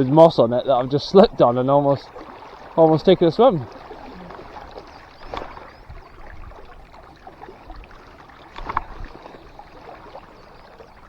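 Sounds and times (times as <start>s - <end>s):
river current rushing: 0.0s - 11.0s
water splashes: 0.0s - 11.0s.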